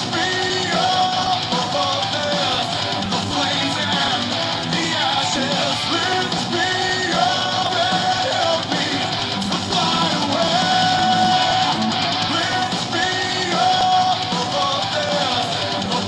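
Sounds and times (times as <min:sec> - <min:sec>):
rock song through small speaker: 0:00.0 - 0:16.0.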